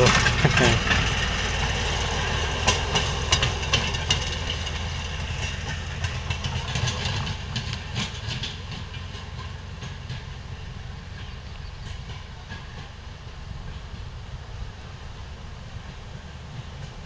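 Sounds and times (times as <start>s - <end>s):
rail car engine running: 0.0s - 17.0s
wheels clicking over rail joints: 0.0s - 17.0s.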